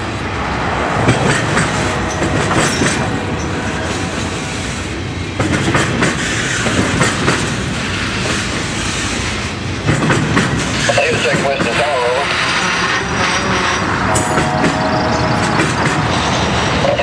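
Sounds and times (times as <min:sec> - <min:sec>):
train wheels rumbling and clacking: 0:00.0 - 0:17.0.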